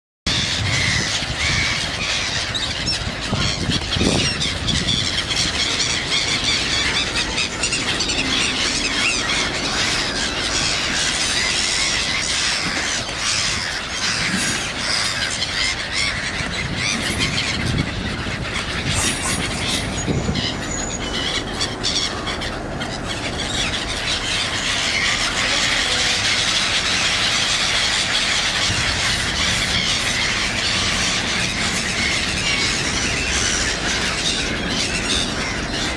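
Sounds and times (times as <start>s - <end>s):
gulls squealing cries: 0.3s - 35.9s
wings flapping: 0.9s - 35.9s.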